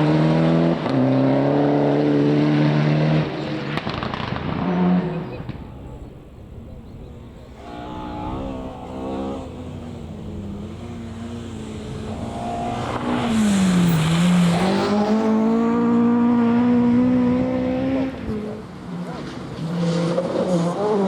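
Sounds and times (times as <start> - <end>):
rally car engine revving: 0.0 - 6.0, 7.2 - 21.0.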